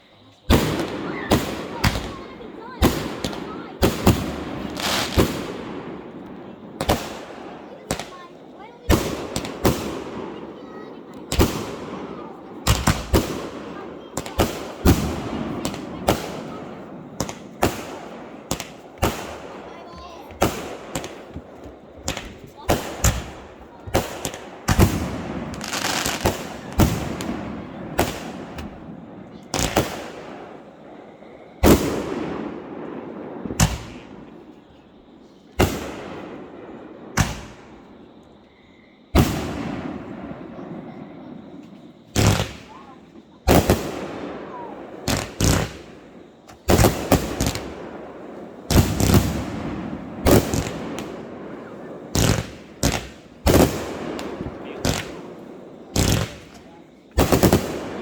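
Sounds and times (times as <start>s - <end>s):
fireworks bangs echoing: 0.0s - 58.0s.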